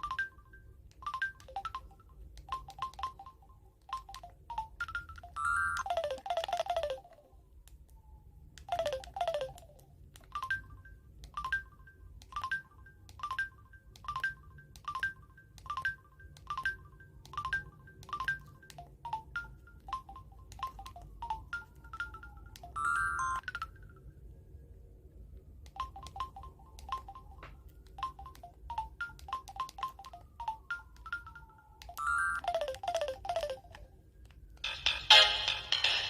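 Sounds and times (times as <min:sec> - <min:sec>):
cell phone polyphonic ringtone: 0:00.0 - 0:07.4, 0:08.6 - 0:24.2, 0:25.7 - 0:36.0.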